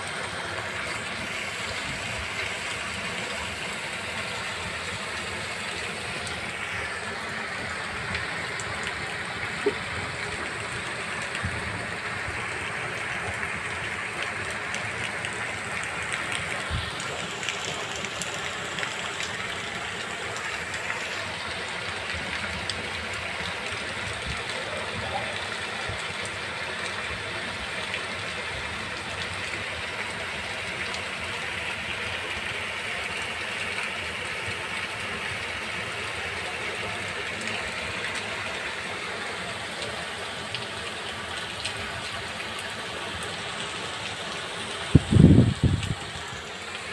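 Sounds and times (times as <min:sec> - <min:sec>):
heavy rain on paving: 0:00.0 - 0:46.9.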